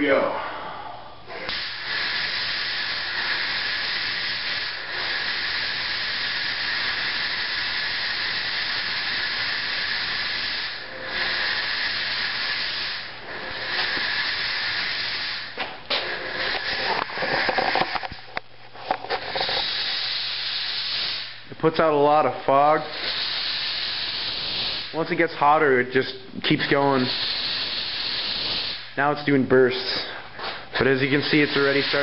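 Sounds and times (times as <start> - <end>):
fog machine hissing: 1.4 - 18.2, 19.2 - 21.9, 22.5 - 25.3, 26.4 - 29.1, 30.8 - 32.0.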